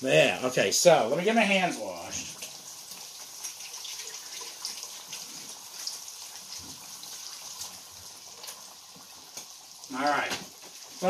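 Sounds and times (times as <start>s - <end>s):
faucet running water: 0.1s - 11.0s.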